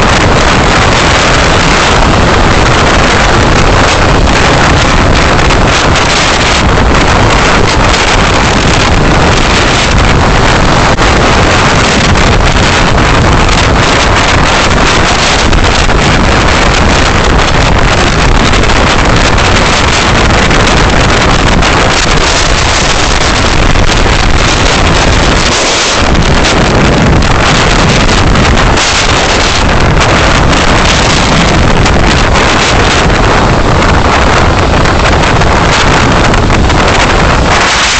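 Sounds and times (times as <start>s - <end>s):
car road and wind noise: 0.0s - 37.9s
engine and tyre rumble: 0.0s - 37.9s.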